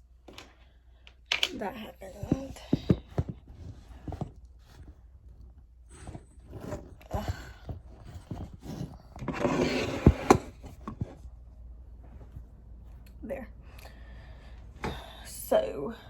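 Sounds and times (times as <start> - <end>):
rustling of handled objects: 0.0 - 13.1.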